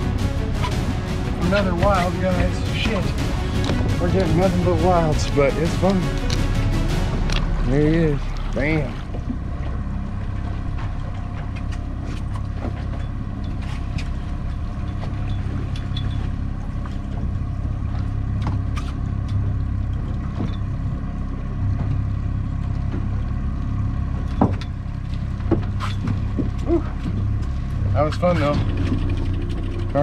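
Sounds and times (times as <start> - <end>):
outboard motor droning: 0.0 - 30.0.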